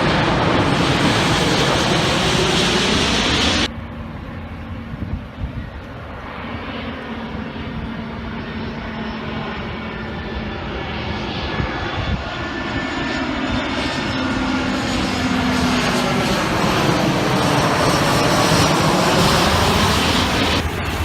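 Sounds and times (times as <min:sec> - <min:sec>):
engine noise: 0:00.0 - 0:21.0.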